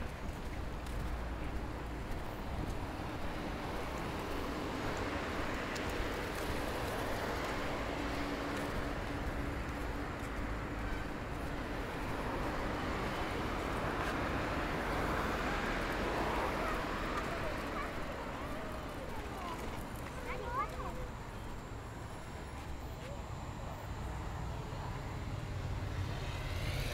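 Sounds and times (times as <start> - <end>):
traffic noise: 0.0 - 26.9.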